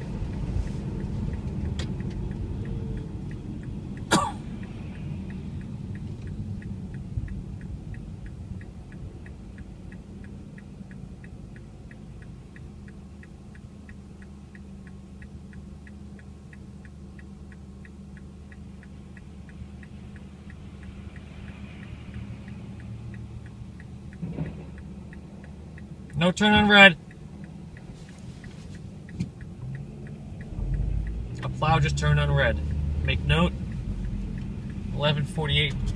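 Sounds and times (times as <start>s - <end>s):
car interior rumble: 0.0s - 35.9s
turn signal ticking: 0.0s - 35.9s.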